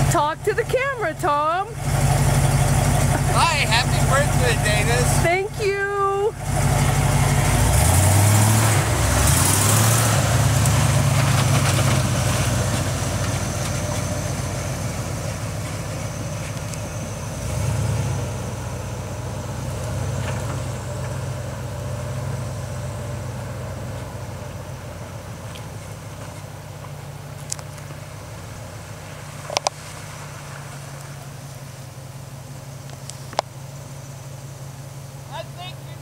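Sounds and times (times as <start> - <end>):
pickup truck engine revving: 0.0 - 36.0.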